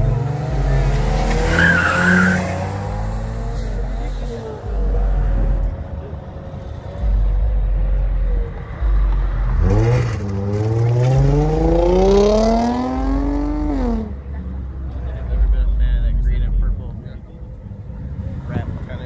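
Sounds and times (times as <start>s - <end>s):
car engine revving: 0.0s - 16.8s.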